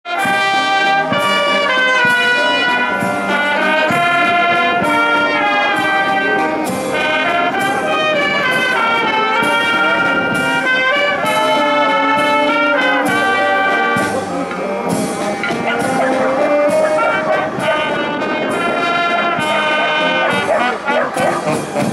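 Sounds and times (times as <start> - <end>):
military brass band playing: 0.0 - 21.9.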